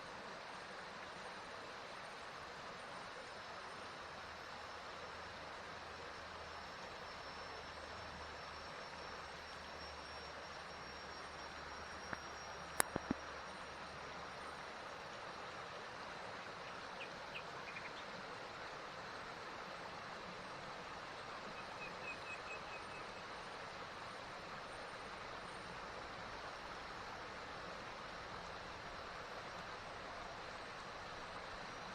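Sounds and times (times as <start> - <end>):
stream flowing: 0.0 - 31.9.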